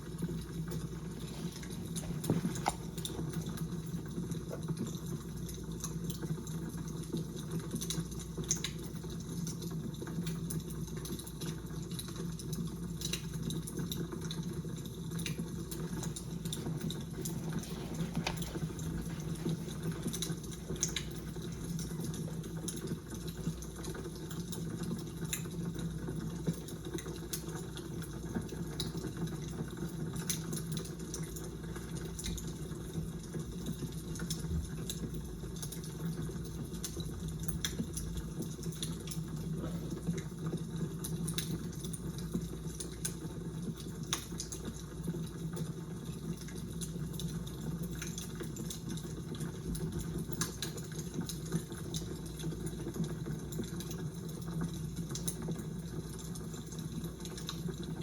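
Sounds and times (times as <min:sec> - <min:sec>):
fire crackling and popping: 0:00.0 - 0:29.6, 0:30.2 - 0:58.0.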